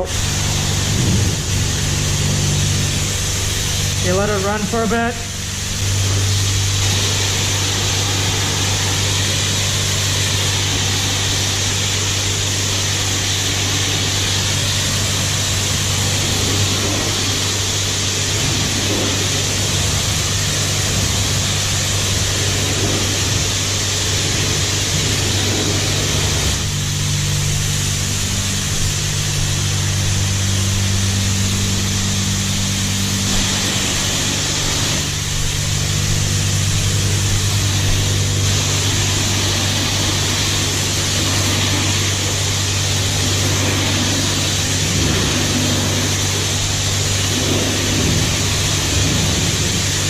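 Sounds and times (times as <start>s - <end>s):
low steady hum: 0.0s - 50.0s
pressure washer spraying water: 0.0s - 50.0s.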